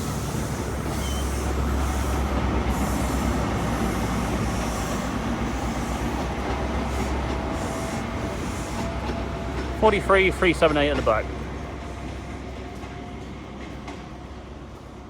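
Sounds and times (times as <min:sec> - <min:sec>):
train diesel engines droning: 0:00.0 - 0:15.0.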